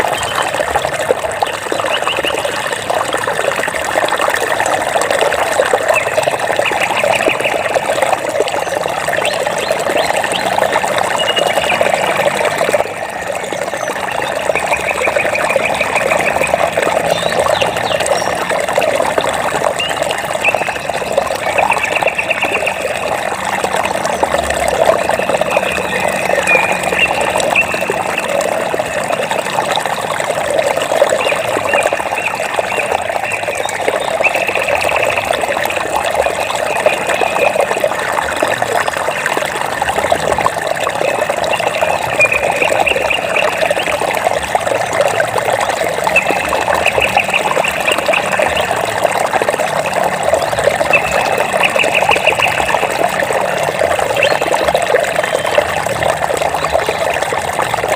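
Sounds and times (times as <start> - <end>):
water trickling and babbling: 0.0 - 57.9.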